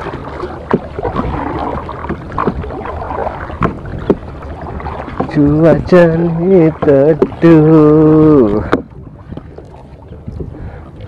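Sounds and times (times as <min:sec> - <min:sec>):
water swishing around paddle: 0:00.0 - 0:11.0.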